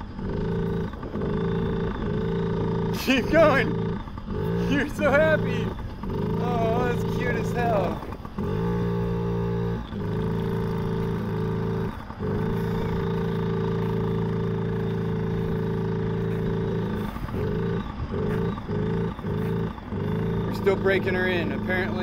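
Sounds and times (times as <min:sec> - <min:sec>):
small two-stroke engine running: 0:00.0 - 0:22.0.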